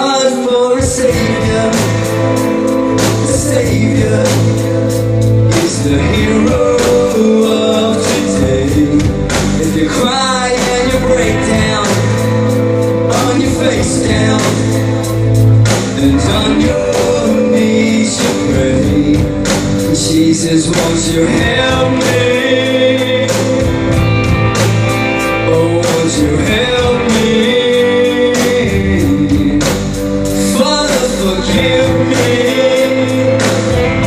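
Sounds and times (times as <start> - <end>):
person singing: 0.0 - 34.0
rock song: 0.0 - 34.0.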